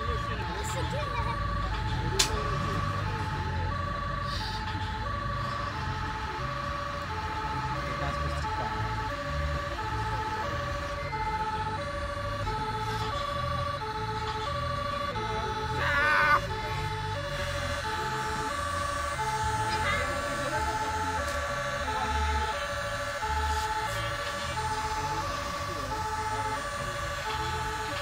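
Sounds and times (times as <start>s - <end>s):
electronic fire-engine siren: 0.0s - 28.0s.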